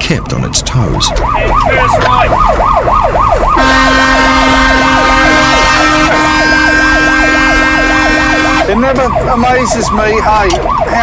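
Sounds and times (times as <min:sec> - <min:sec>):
fire engine siren yelp: 0:00.0 - 0:11.0.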